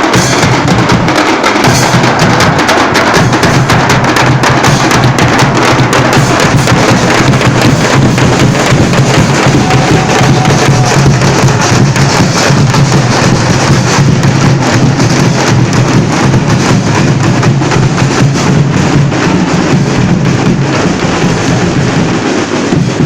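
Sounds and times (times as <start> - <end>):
fast drumming: 0.0 - 23.0.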